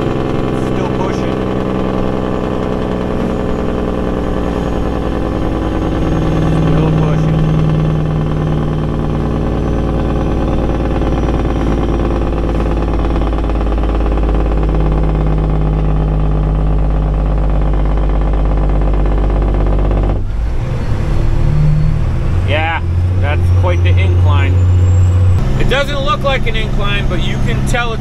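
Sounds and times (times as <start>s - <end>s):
truck engine brake drone: 0.0s - 28.0s.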